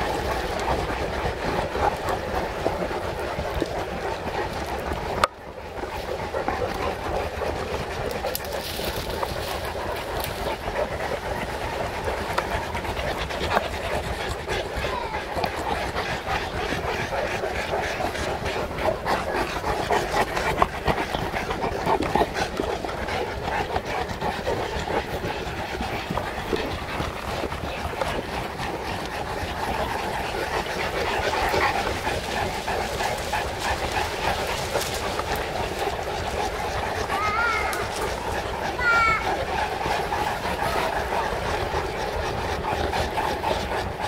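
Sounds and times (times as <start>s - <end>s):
dogs panting: 0.0s - 44.0s.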